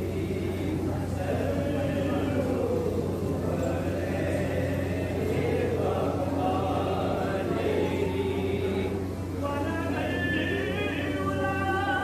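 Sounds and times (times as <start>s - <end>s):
steady low hum: 0.0s - 12.0s
voices chanting: 0.0s - 12.0s.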